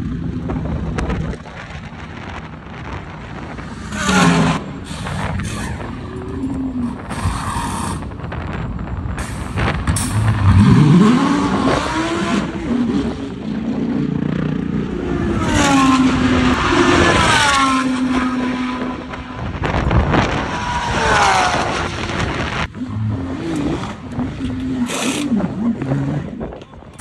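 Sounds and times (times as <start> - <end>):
cars passing by: 0.0 - 27.0
race car engines: 0.0 - 27.0.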